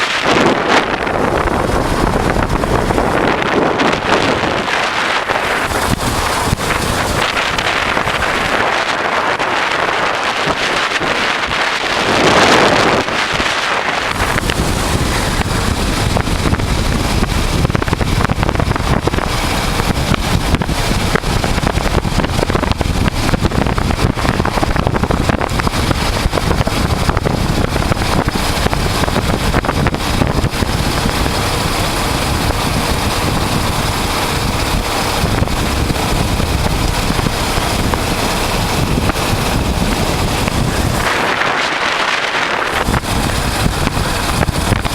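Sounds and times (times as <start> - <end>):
motorcycle engine running: 0.0 - 44.9
wind noise on microphone: 0.0 - 44.9.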